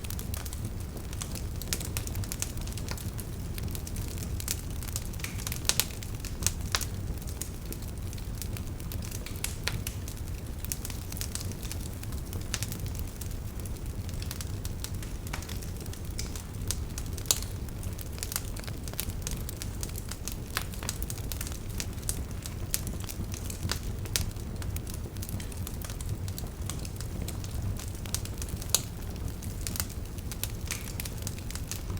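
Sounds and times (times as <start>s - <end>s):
campfire crackling and popping: 0.0s - 31.9s.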